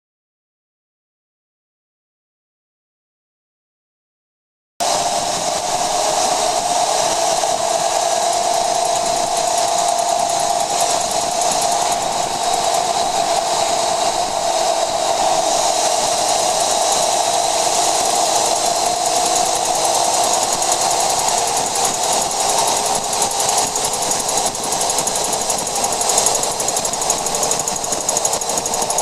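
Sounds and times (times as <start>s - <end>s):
high-pitched rapid clicking: 4.8s - 29.0s
road and drivetrain noise: 4.8s - 29.0s.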